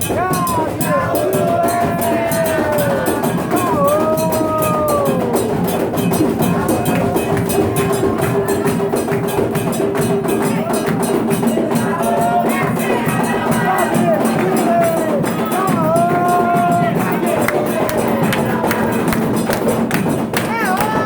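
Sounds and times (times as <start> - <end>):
person singing: 0.0 - 19.4
fast dense percussion: 0.0 - 21.0.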